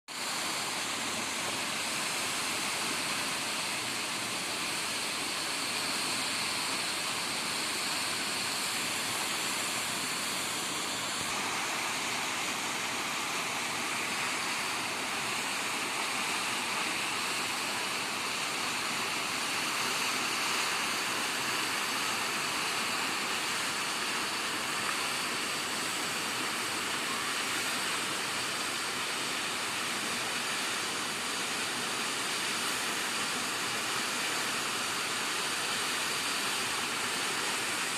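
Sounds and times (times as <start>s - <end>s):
waterfall rushing: 0.1s - 37.9s.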